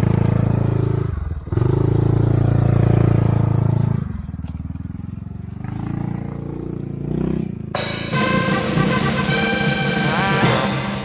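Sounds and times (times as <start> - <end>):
scooter engine revving: 0.0 - 8.9.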